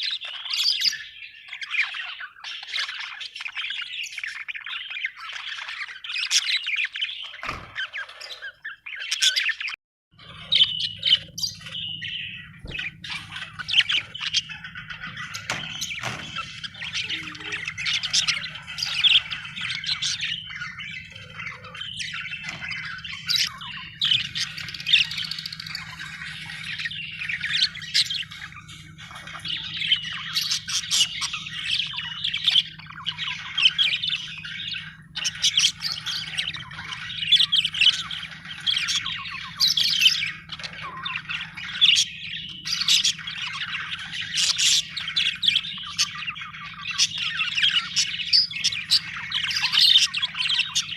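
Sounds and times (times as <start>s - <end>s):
budgerigars chirping: 0.0s - 50.9s.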